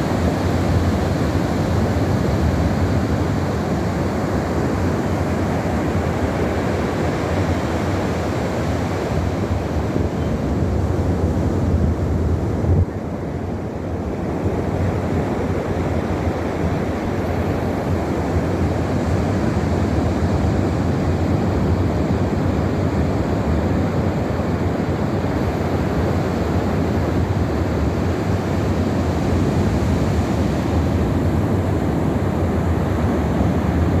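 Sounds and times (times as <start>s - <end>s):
surf breaking on beach: 0.0s - 34.0s
wind rumbling on microphone: 0.0s - 34.0s.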